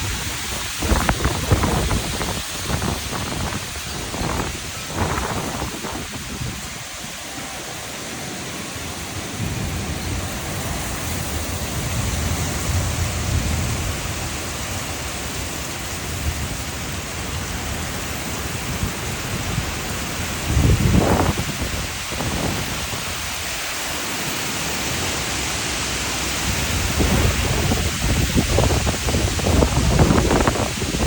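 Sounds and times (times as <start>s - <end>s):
low rolling thunder: 0.0s - 7.8s, 8.7s - 23.3s, 26.5s - 31.0s
steady rain: 0.0s - 31.0s.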